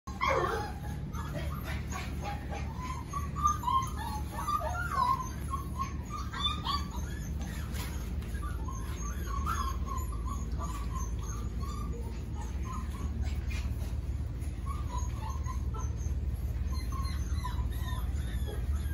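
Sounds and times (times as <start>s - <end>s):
puppies whining and squeaking: 0.1s - 18.9s.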